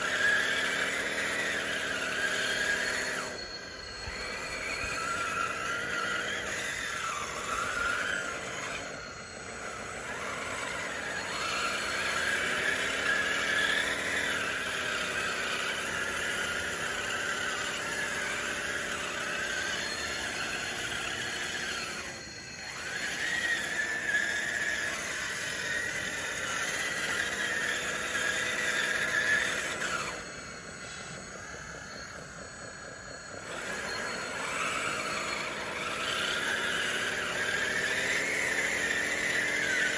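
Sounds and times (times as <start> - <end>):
electric motors whining: 0.0 - 39.9
tracks squealing: 0.0 - 39.9.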